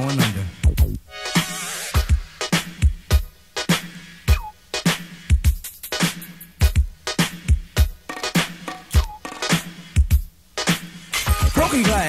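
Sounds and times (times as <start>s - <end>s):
hip-hop drum beat: 0.0s - 12.0s.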